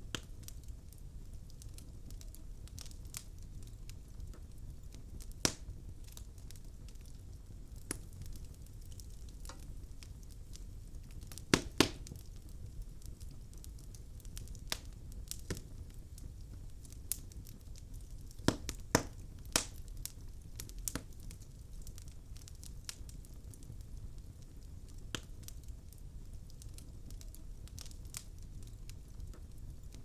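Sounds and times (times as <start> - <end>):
logs crackling in a fireplace: 0.0 - 30.0
sharp pops from fire: 0.0 - 30.0.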